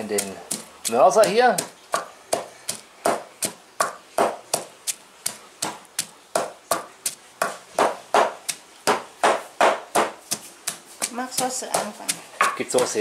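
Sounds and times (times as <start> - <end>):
pestle pounding in a mortar: 0.0 - 13.0.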